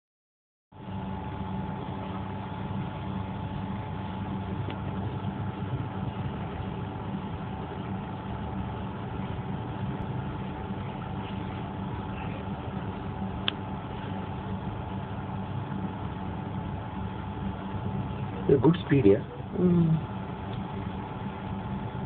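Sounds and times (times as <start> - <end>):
boat engine humming: 0.8 - 22.0.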